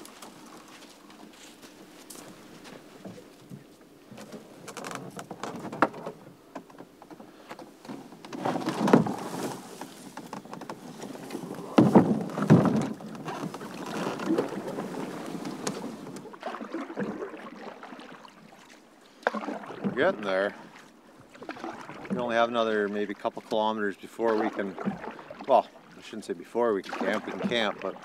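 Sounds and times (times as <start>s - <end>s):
canoe knocking and thudding: 0.0s - 18.0s, 19.2s - 25.6s, 26.8s - 28.0s
paddle strokes through water: 0.0s - 28.0s.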